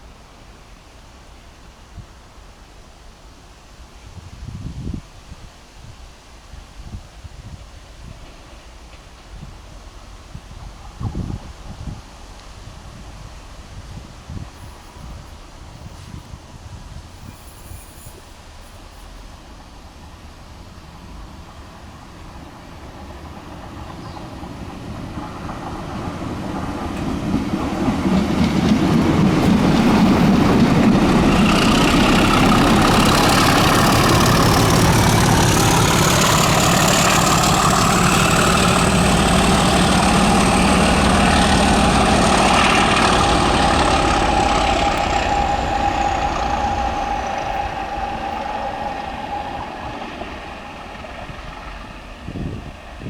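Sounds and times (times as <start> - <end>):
high whine of train: 0.0 - 53.0
train passing at speed: 6.2 - 53.0.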